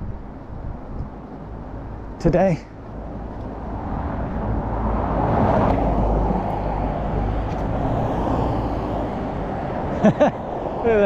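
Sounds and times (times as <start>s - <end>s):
low traffic rumble: 0.0s - 11.0s
vehicle passing on street: 0.0s - 11.0s.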